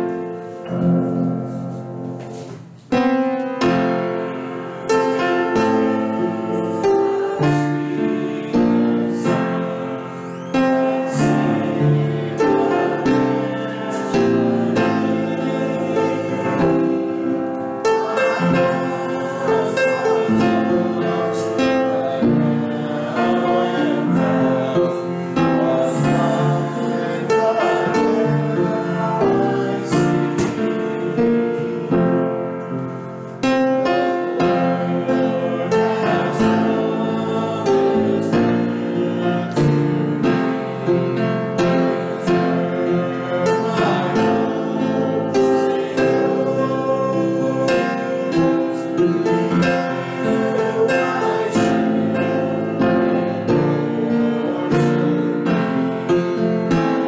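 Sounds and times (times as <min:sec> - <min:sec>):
piano accompaniment: 0:00.0 - 0:57.0
voices singing a hymn: 0:00.0 - 0:57.0.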